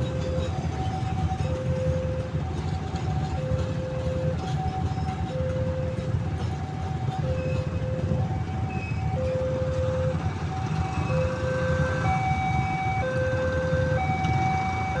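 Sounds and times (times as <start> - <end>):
two-tone railway siren: 0.0 - 15.0.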